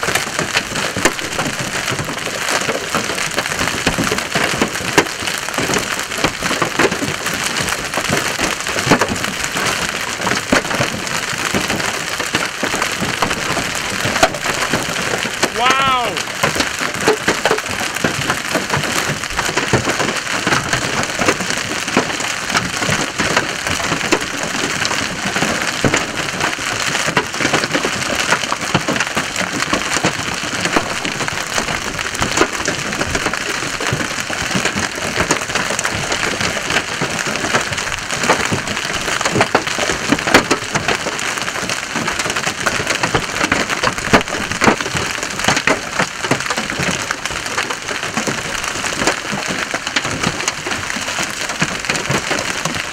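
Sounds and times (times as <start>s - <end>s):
hailstones knocking: 0.0s - 52.9s
heavy rain rushing: 0.0s - 52.9s.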